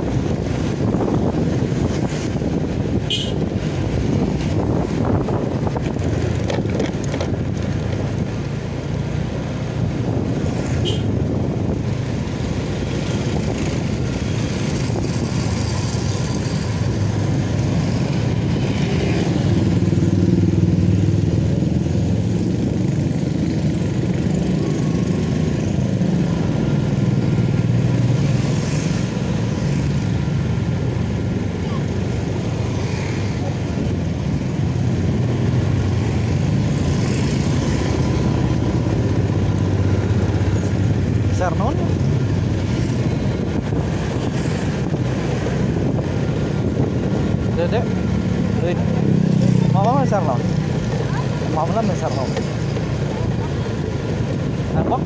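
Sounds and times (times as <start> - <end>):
motorcycles passing: 0.0 - 55.0
wind and road noise: 0.0 - 55.0.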